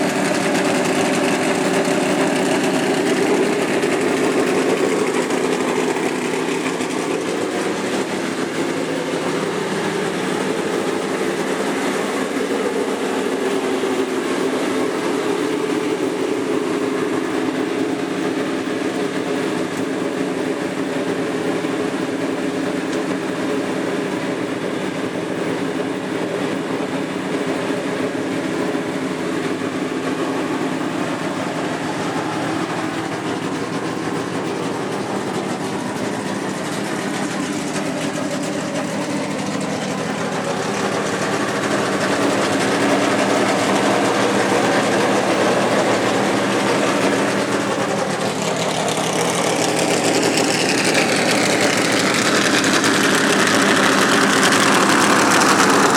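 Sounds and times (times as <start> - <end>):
engine running steadily: 0.0 - 55.9.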